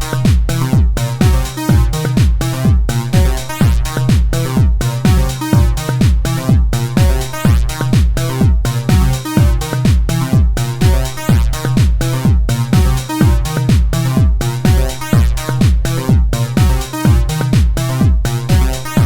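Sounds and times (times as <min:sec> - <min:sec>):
electronic house music: 0:00.0 - 0:19.0.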